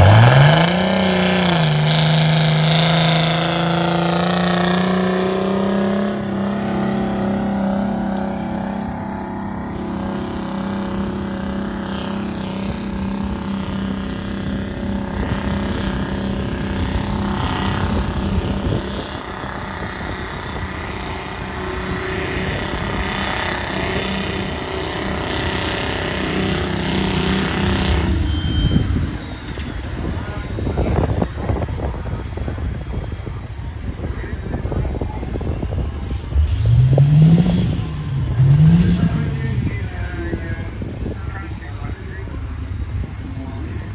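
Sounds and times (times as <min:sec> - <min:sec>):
tractor engine running under load: 0:00.0 - 0:43.9.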